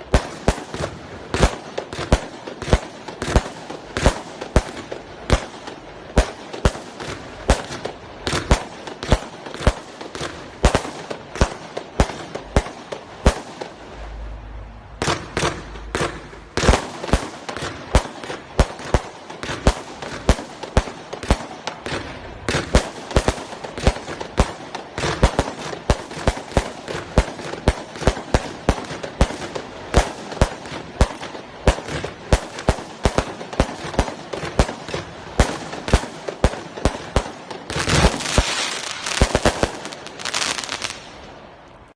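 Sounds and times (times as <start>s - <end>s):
firework crackling: 0.0s - 41.9s
firework reports: 0.0s - 41.9s.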